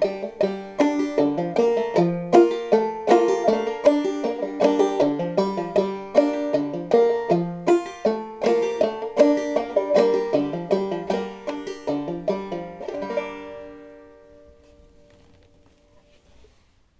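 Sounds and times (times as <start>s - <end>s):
banjo plucked: 0.0s - 16.2s.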